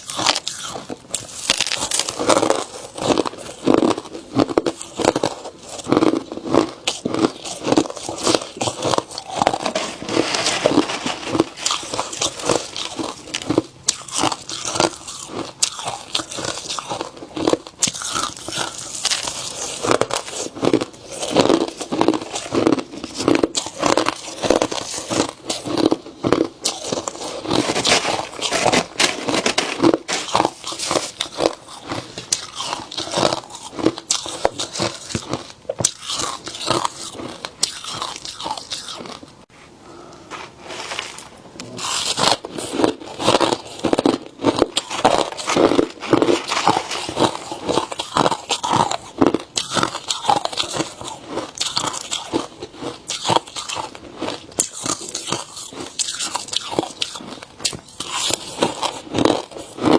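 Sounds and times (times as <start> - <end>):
person chewing ice: 0.0 - 39.5, 41.1 - 59.9.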